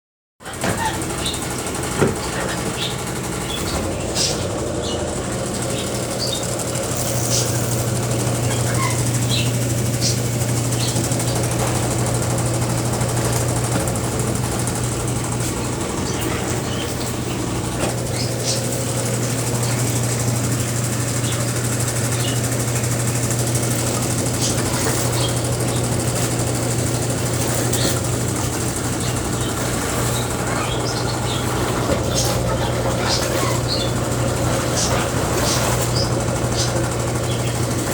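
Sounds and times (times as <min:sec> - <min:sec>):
washing machine running: 0:00.4 - 0:37.9.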